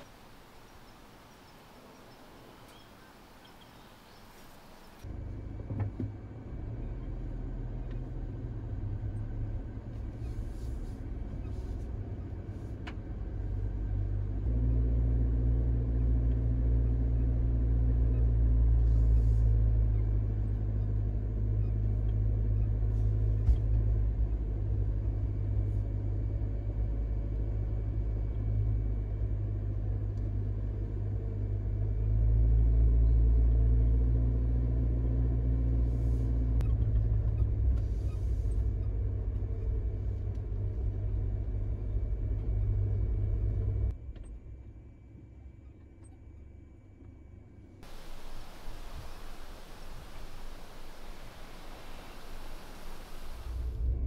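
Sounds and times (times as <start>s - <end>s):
car engine and road noise: 0.0s - 45.7s, 47.3s - 54.0s.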